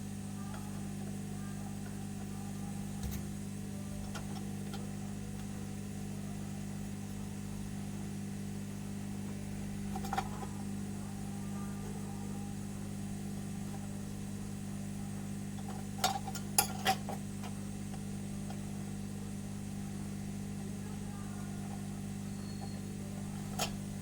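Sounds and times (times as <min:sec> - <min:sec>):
small electric motor humming: 0:00.0 - 0:24.0.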